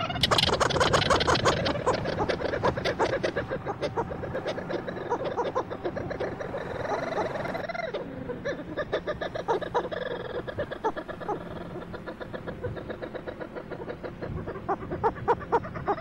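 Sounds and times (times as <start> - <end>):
seabirds chattering: 0.0 - 16.0
steady low hum: 0.0 - 16.0.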